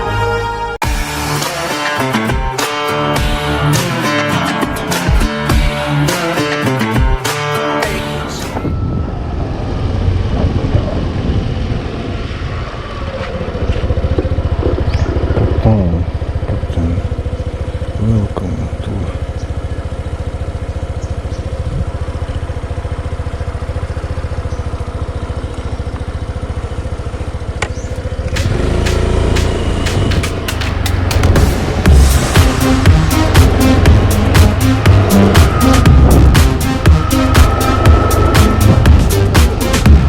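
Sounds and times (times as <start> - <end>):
engine rumbling: 2.0 - 40.0.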